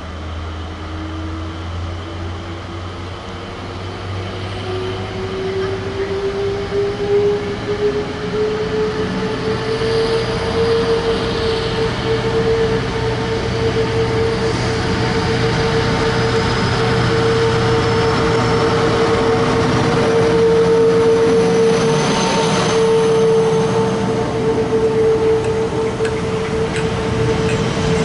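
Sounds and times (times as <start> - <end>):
diesel locomotives approaching: 0.0 - 28.0.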